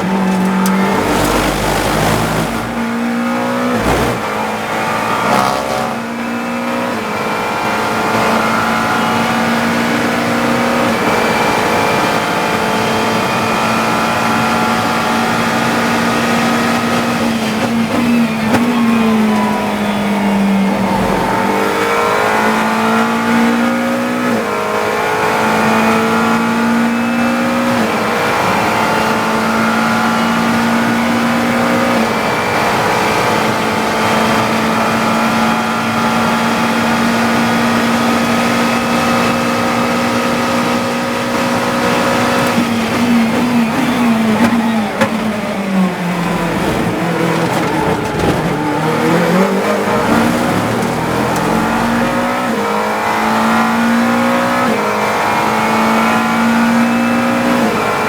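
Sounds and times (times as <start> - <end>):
gear downshifts: 0.0 - 58.0
race car engine revving: 0.0 - 58.0.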